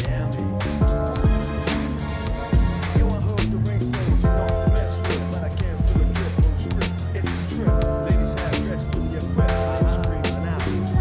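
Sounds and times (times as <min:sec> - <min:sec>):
hip-hop music with a beat: 0:00.0 - 0:11.0.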